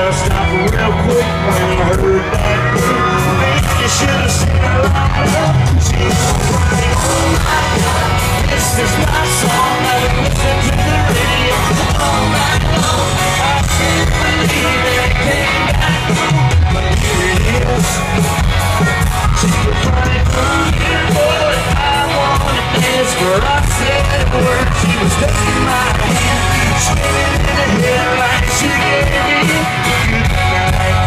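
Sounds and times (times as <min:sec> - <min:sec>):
heavy bass: 0:00.0 - 0:31.0
lead vocal singing: 0:00.0 - 0:31.0
live country-pop band: 0:00.0 - 0:31.0.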